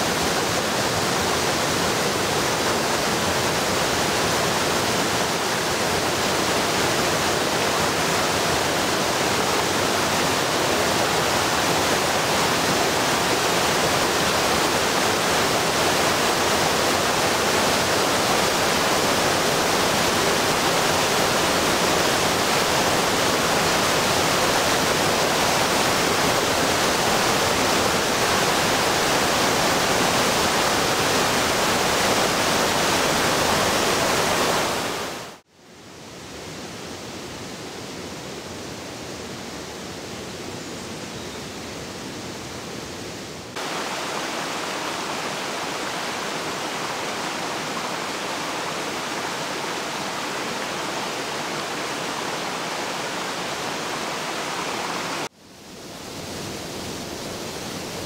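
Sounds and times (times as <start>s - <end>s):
water rushing over a weir: 0.0s - 35.4s, 43.4s - 58.0s.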